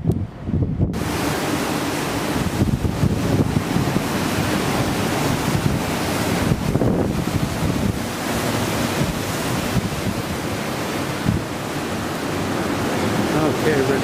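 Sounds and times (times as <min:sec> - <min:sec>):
sea water rushing along hull: 0:00.0 - 0:14.0
wind buffeting microphone: 0:00.0 - 0:14.0.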